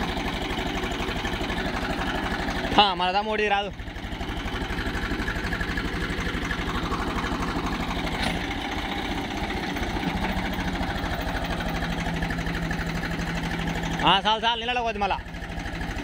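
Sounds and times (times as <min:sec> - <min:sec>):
tractor diesel engine chugging: 0:00.0 - 0:16.0.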